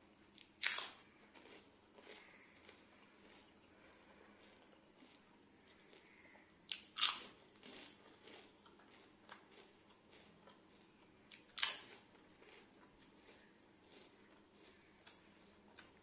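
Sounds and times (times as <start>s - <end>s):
chewing crackles: 0.4s - 16.0s
person crunching crisp food: 0.4s - 16.0s.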